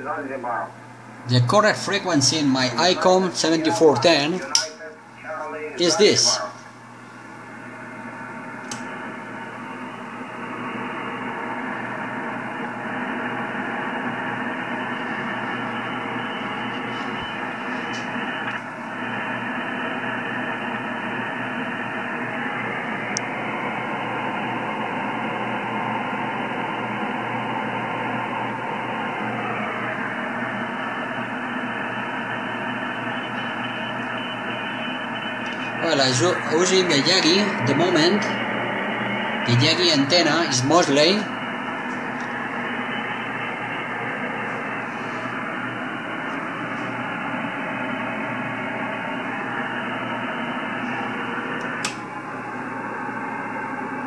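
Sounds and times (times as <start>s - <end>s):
radio static: 0.0s - 6.8s, 7.5s - 51.9s
faint steady tones: 0.0s - 54.0s.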